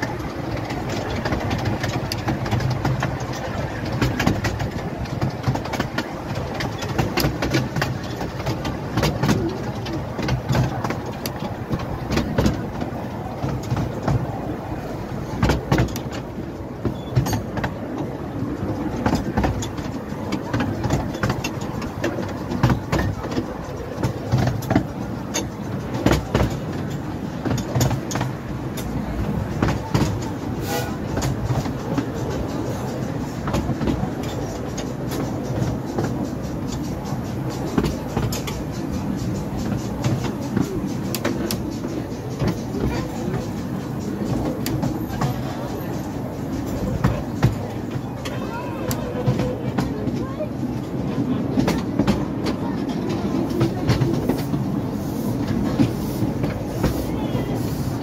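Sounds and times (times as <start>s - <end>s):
train carriage rumbling and rattling: 0.0s - 58.0s
wheels clicking on rails: 0.0s - 58.0s.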